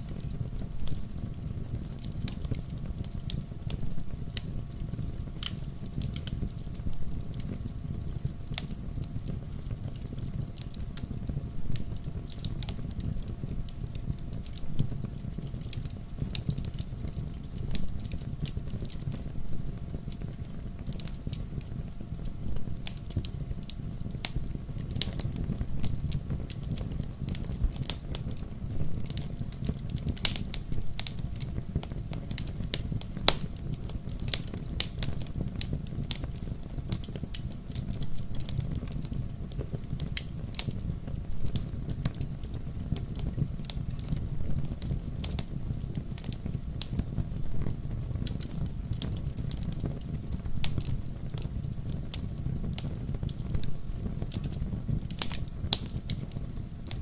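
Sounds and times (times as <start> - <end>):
bonfire crackling and popping: 0.0 - 57.0
low rumble of flames: 0.0 - 57.0.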